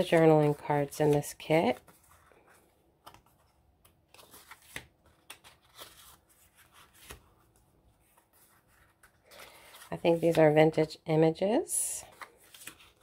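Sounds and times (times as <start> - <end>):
paper cards rustling: 0.0 - 10.9, 12.0 - 13.0.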